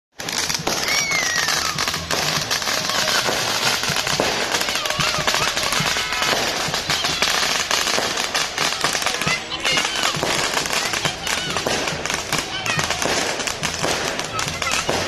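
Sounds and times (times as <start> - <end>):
fireworks crackling and popping: 0.1 - 15.0.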